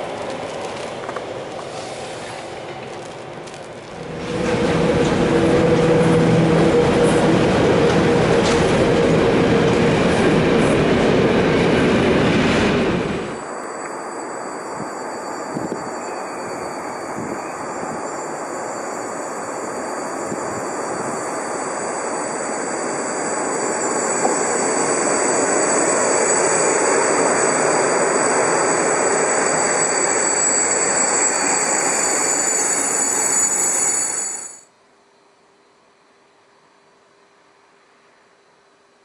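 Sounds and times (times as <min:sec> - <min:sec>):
freight train rolling past: 0:00.0 - 0:34.6
locomotive high whine: 0:00.0 - 0:34.7.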